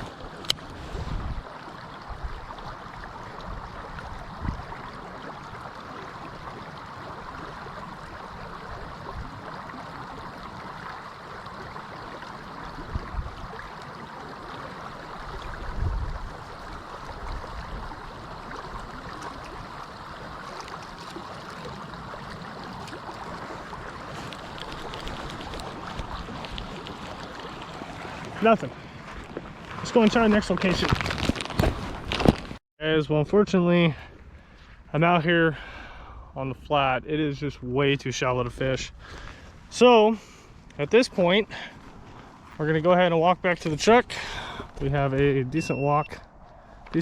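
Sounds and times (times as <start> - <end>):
rushing lake water: 0.0 - 47.0.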